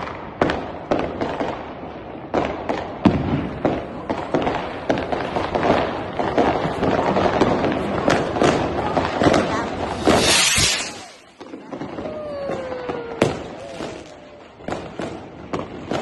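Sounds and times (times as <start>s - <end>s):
fireworks and firecrackers crackling: 0.0s - 16.0s.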